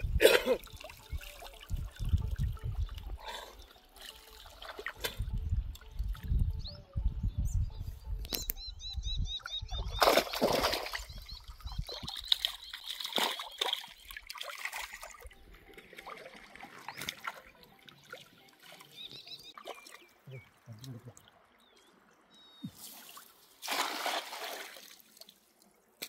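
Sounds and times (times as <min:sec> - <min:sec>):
water splashing and sloshing: 0:00.0 - 0:06.4, 0:09.7 - 0:26.0
water trickling and dripping: 0:00.0 - 0:06.6, 0:10.0 - 0:26.0.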